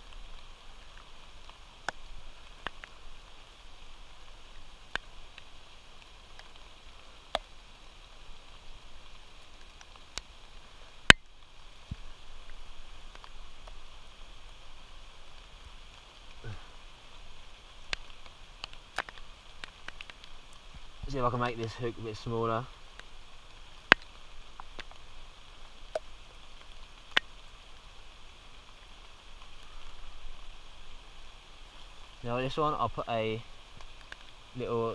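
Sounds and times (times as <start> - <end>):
rain hissing: 0.0 - 34.9.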